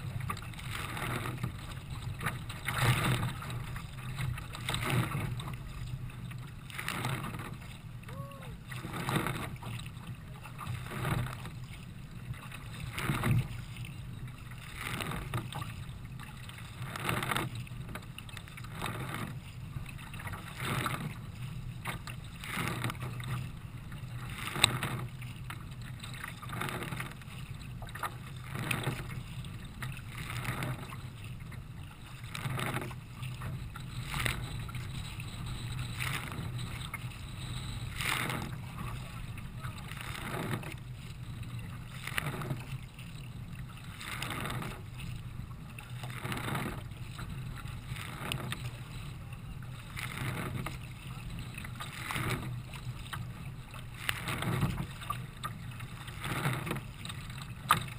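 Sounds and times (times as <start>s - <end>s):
water splashing against kayak: 0.0s - 57.9s.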